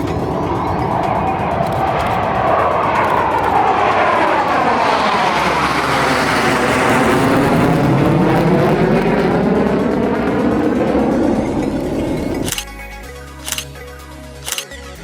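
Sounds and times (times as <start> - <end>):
fighter jet flying past: 0.0 - 12.6.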